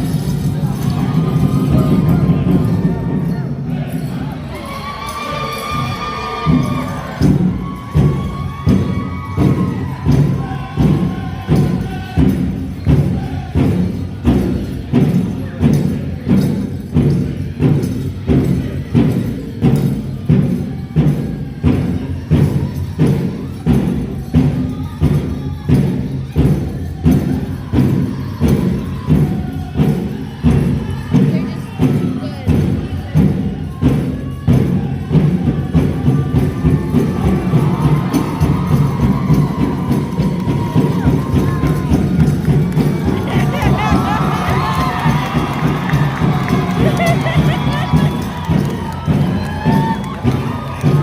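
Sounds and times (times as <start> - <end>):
big drum steady beat: 5.8 - 51.0.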